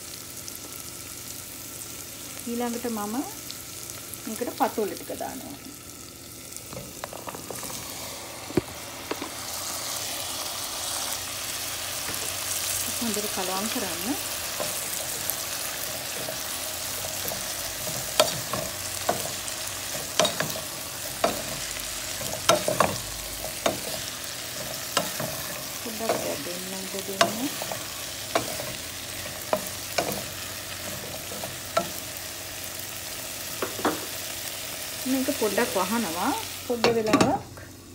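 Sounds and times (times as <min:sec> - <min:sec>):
vegetables sizzling in oil: 0:00.0 - 0:37.9.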